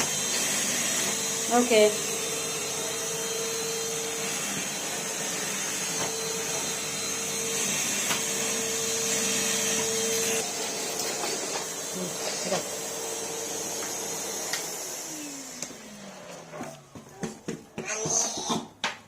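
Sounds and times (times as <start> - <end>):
vacuum cleaner running: 0.0 - 18.6.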